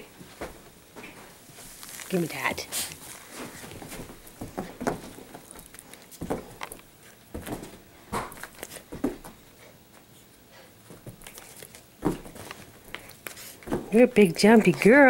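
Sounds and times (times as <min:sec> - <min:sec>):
dog paws thumping on carpet: 0:00.2 - 0:02.1, 0:03.0 - 0:10.0, 0:10.9 - 0:15.0.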